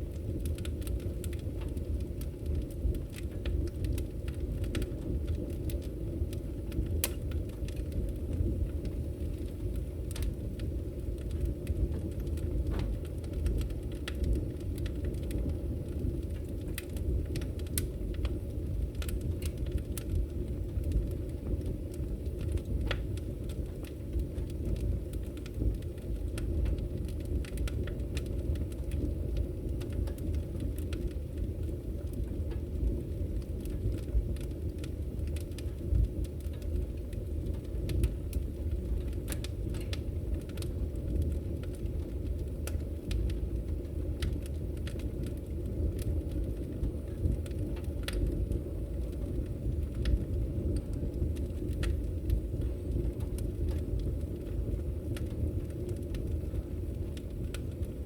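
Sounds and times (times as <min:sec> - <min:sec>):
firewood crackling and popping: 0:00.0 - 0:58.0
low rumble of flames: 0:00.0 - 0:58.0.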